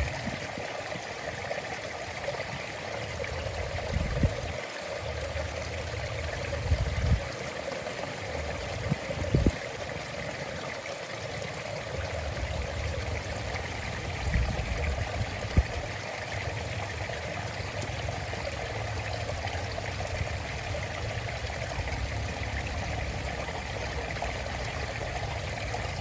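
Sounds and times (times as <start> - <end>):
stream of water trickling: 0.0 - 26.0.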